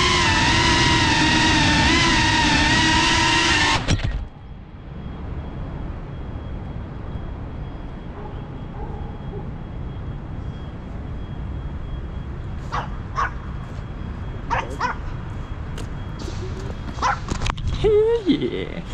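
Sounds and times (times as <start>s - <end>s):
drone motor whine: 0.0s - 17.6s
low rumble of city traffic: 0.0s - 18.9s.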